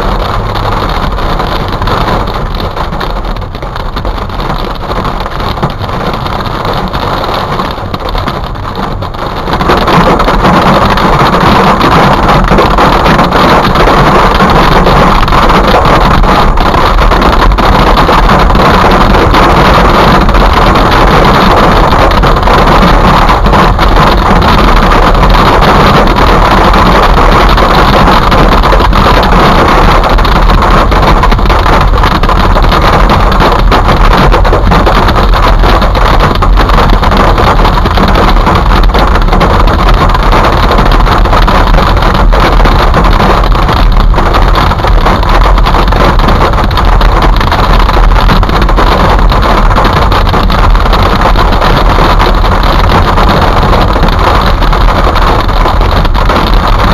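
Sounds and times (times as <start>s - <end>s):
hail and heavy rain on car roof: 0.0s - 56.9s.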